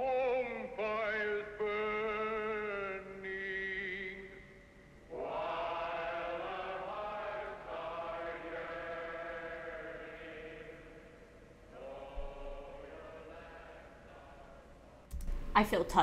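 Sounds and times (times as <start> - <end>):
held choir-like chords: 0.0 - 16.0.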